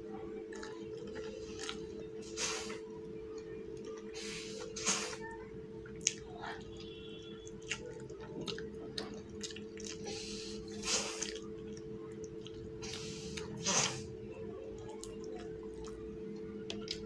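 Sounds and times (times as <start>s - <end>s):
steady low hum: 0.0s - 17.0s
close chewing: 0.4s - 4.3s, 5.8s - 13.7s, 14.6s - 17.0s.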